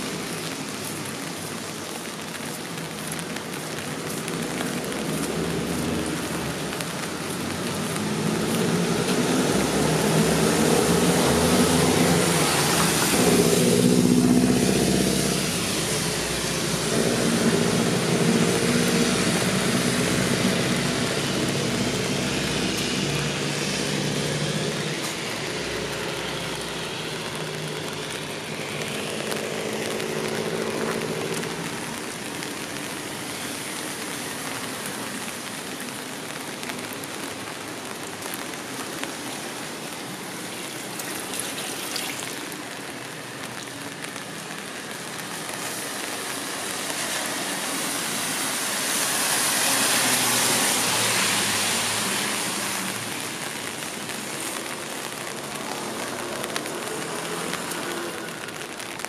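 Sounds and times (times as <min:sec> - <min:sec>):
rain falling on street: 0:00.0 - 0:59.0.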